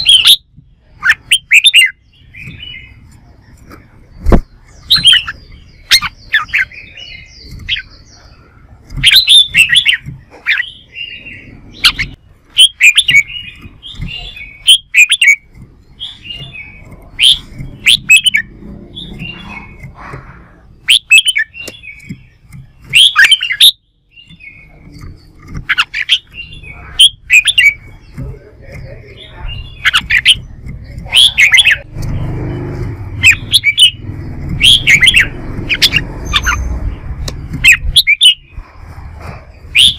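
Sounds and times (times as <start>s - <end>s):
bird singing clear phrases: 0.0s - 39.9s.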